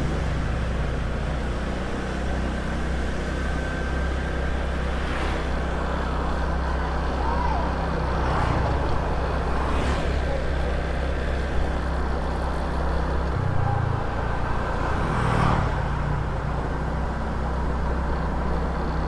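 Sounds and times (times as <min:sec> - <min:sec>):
motor scooter engine drone: 0:00.0 - 0:19.0
road and wind noise: 0:00.0 - 0:19.0.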